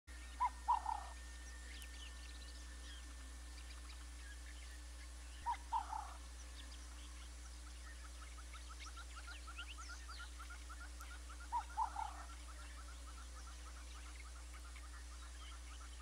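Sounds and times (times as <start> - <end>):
bird call of short notes: 0.1 - 16.0
small birds chirping: 0.1 - 16.0
steady low hum: 0.1 - 16.0.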